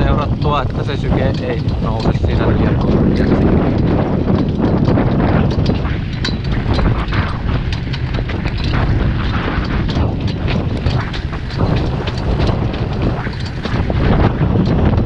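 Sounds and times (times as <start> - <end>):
cart rattles and hoof clicks: 0.0 - 15.0
cart rolling on gravel: 0.0 - 15.0
wind buffeting microphone: 0.0 - 15.0.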